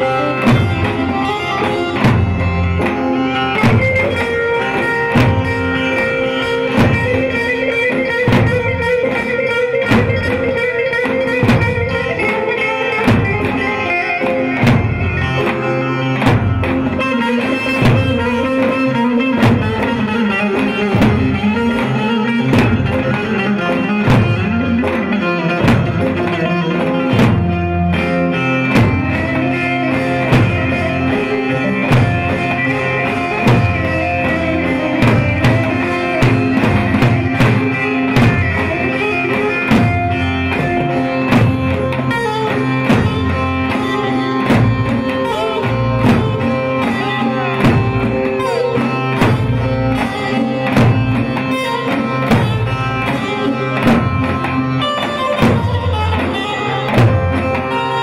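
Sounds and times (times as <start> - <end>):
amplified electric saz melody: 0.0 - 58.0
steady drum beat: 0.0 - 58.0.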